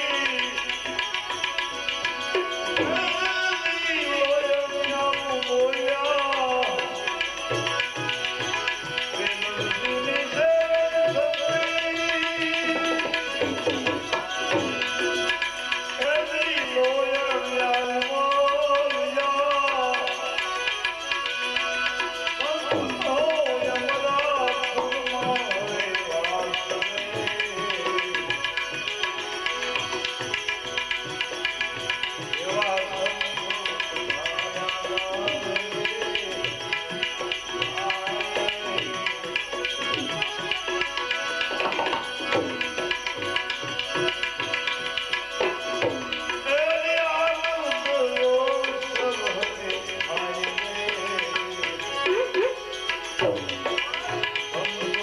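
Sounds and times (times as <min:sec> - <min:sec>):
devotional melody: 0:00.0 - 0:55.0
tabla playing fast rhythm: 0:00.0 - 0:55.0.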